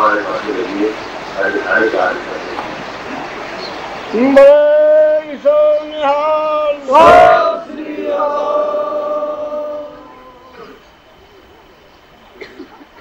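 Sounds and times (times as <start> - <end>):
voices chanting: 0.0 - 11.7.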